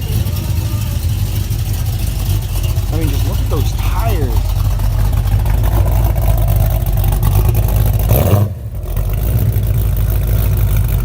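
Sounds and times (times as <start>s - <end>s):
car engine with deep exhaust note: 0.0s - 11.0s.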